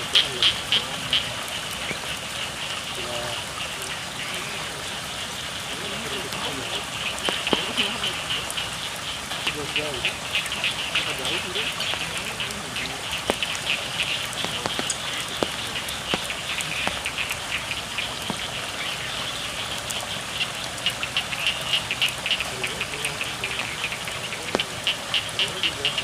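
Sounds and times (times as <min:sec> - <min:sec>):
frogs calling: 0:00.0 - 0:26.0
steady rain: 0:00.0 - 0:26.0
water drops ticking: 0:00.0 - 0:26.0.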